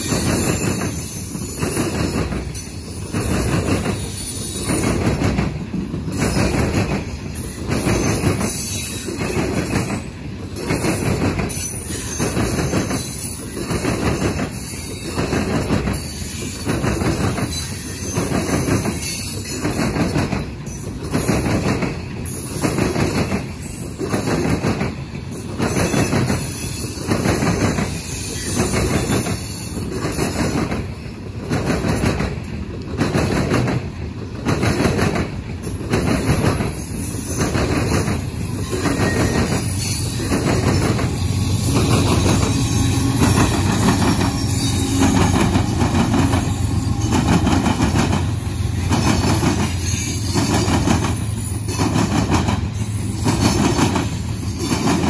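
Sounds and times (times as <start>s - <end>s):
low train rumble: 0.0s - 55.0s
train wheels clacking over rail joints: 0.0s - 55.0s.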